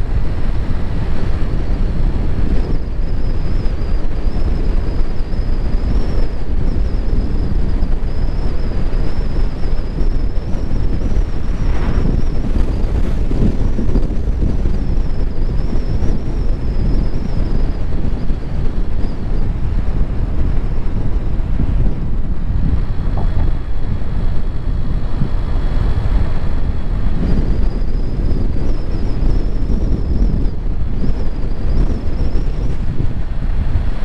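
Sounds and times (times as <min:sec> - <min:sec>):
car road and engine noise: 0:00.0 - 0:34.0
wind rumbling on microphone: 0:00.0 - 0:34.0.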